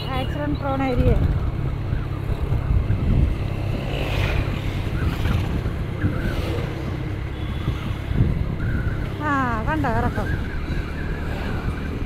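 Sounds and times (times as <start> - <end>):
road noise: 0.0 - 12.0
wind buffeting microphone: 0.5 - 12.0.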